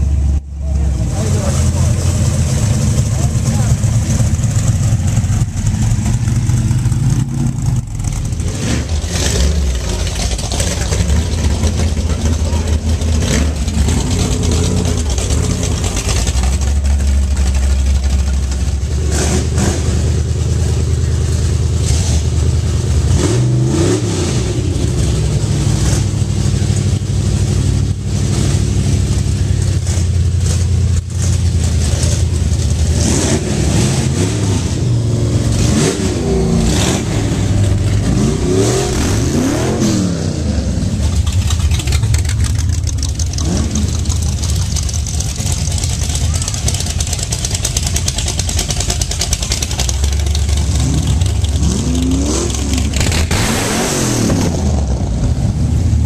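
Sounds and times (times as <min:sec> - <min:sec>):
car engine humming and revving: 0:00.0 - 0:56.0.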